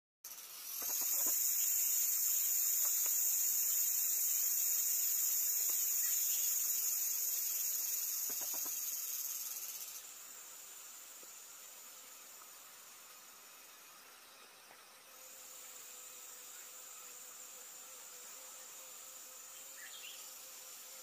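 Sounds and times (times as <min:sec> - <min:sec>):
insects chirring: 0:00.3 - 0:21.0.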